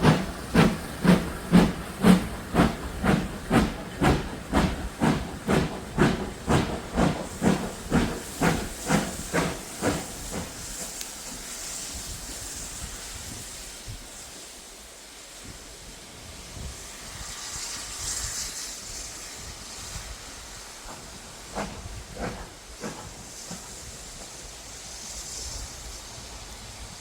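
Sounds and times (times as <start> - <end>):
faint hiss: 0.0 - 27.0
steam locomotive chuffing: 0.0 - 27.0.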